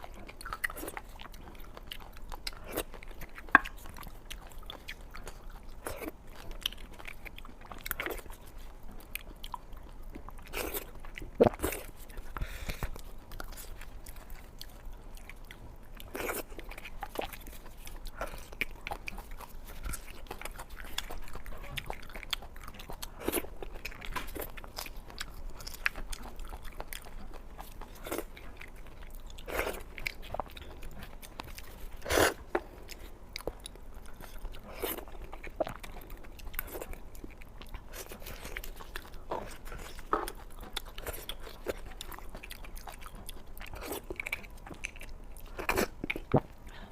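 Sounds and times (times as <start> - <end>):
chewing with wet mouth sounds: 0.0 - 46.9.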